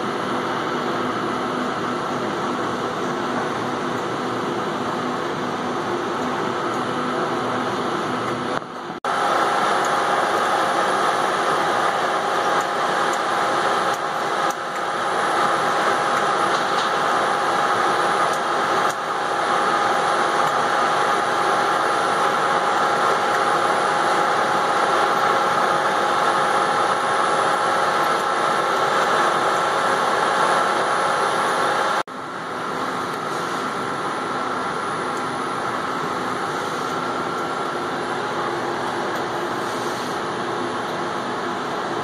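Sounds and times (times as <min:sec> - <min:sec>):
soldering machine whirring: 0:00.0 - 0:42.0.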